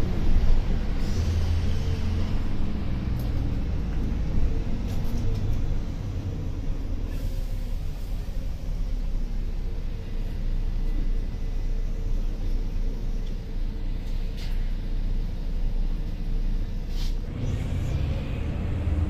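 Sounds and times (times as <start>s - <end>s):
bus diesel engine running: 0.0s - 19.0s
road rumble: 0.0s - 19.0s.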